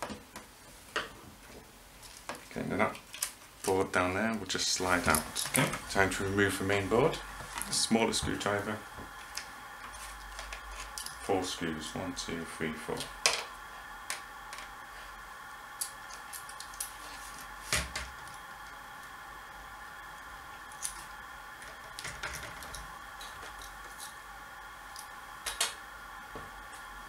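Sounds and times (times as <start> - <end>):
faint high hum: 1.2 - 27.0.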